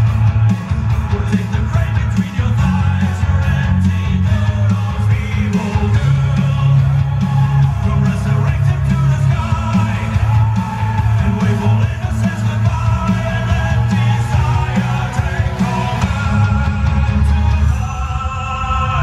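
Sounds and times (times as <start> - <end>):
dance music over loudspeakers: 0.0 - 19.0
person singing: 0.0 - 19.0
strong bass: 0.0 - 19.0.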